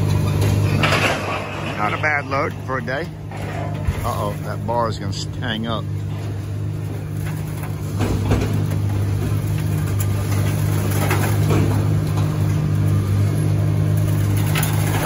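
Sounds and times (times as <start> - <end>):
hydraulic pump running: 0.0 - 15.0.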